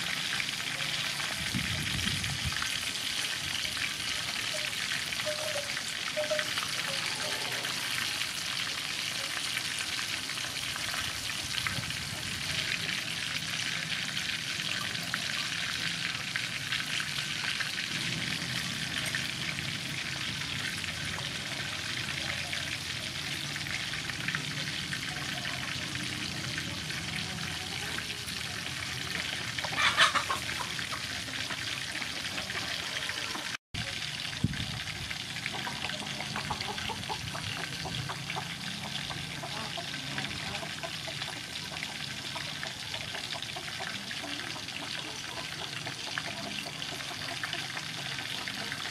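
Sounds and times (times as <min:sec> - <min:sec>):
oil crackling and sizzling: 0:00.0 - 0:48.9.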